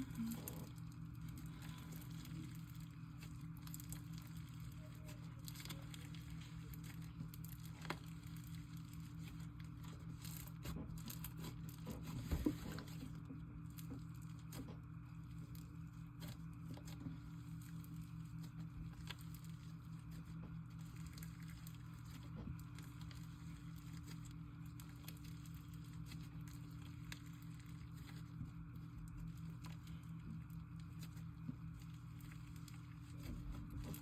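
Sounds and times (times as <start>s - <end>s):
slime crackling and squishing: 0.0s - 34.0s.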